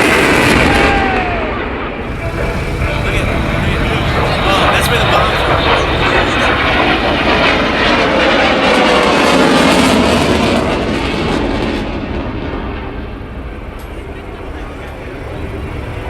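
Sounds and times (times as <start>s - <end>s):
airplane flying past: 0.0s - 16.0s.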